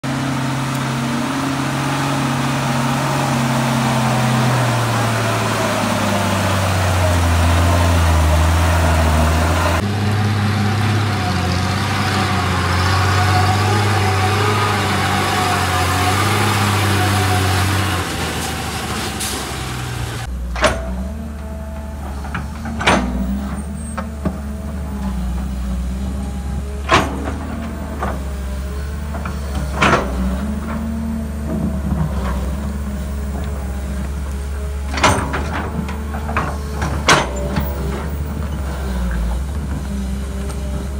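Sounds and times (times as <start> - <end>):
heavy diesel truck engine labouring: 0.0 - 40.9
quieter diesel engine running: 0.0 - 40.9.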